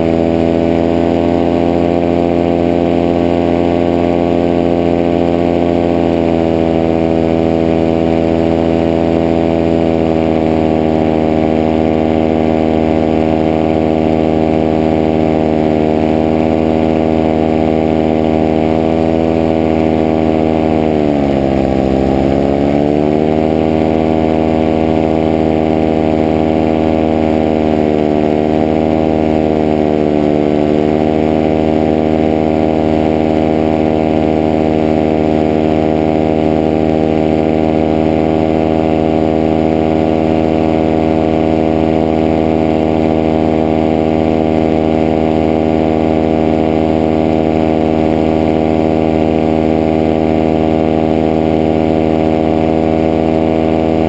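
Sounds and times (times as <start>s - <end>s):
paraglider engine running: 0.0s - 54.0s.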